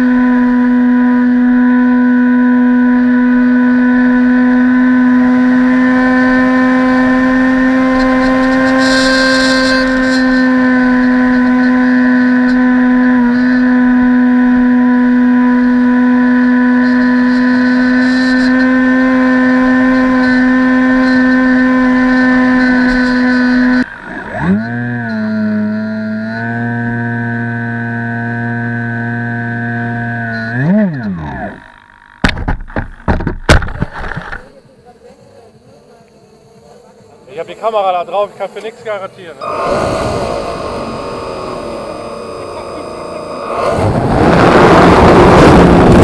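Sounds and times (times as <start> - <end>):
model aircraft motor whine: 0.0 - 46.0.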